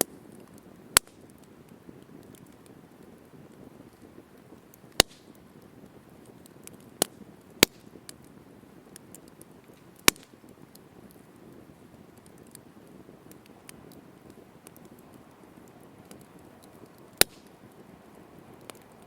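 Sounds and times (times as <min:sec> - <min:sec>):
burning wood popping: 0:00.0 - 0:19.0
campfire crackling: 0:00.0 - 0:19.0.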